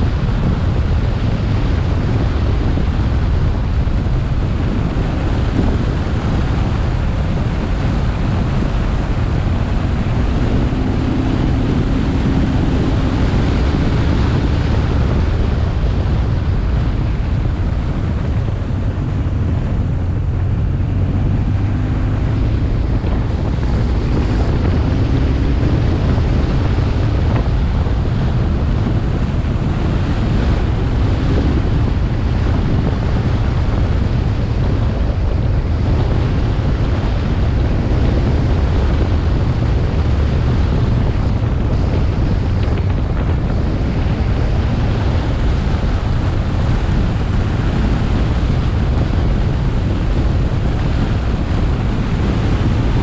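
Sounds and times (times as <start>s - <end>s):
motorcycle engine: 0.0s - 53.0s
wind buffeting microphone: 0.0s - 53.0s.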